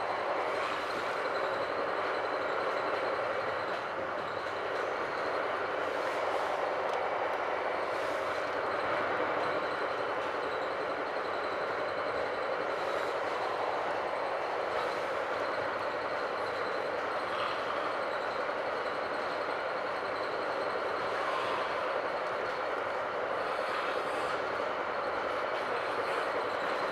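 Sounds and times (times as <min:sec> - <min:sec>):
train running noise from inside: 0:00.0 - 0:26.9.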